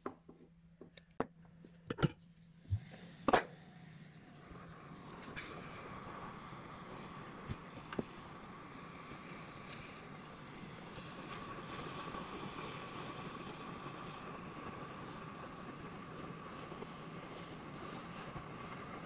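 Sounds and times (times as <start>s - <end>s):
hot air blower hiss: 2.6s - 19.0s.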